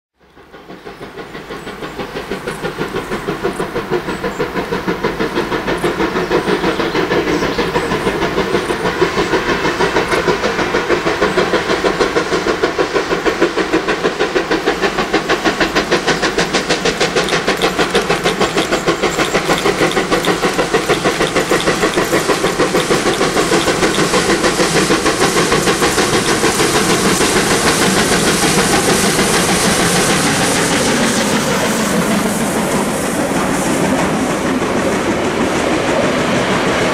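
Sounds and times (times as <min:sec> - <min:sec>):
steam locomotive exhaust chuffs: 0:00.2 - 0:36.9.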